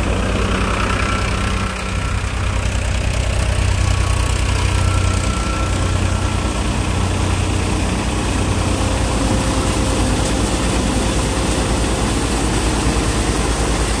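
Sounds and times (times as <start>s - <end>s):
rushing noise: 0.0s - 14.0s
thresher machine droning: 0.0s - 14.0s.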